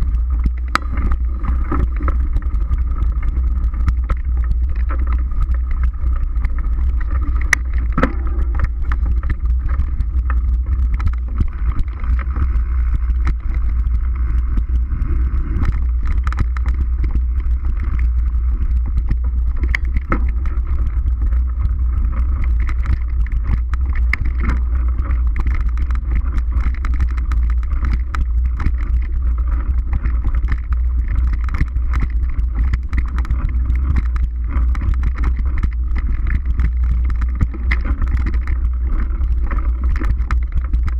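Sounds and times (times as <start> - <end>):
bike clicks and rattles: 0.0 - 40.9
tyres on dirt trail: 0.0 - 40.9.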